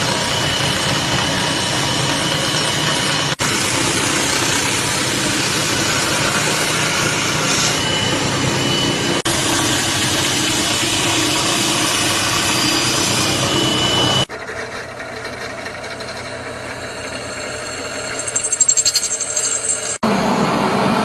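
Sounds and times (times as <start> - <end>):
belt grinder grinding metal: 0.0 - 20.0.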